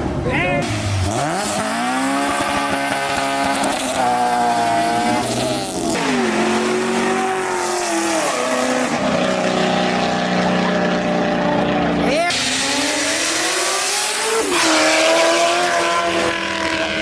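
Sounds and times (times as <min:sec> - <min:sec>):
car engine revving hard: 0:00.6 - 0:17.0.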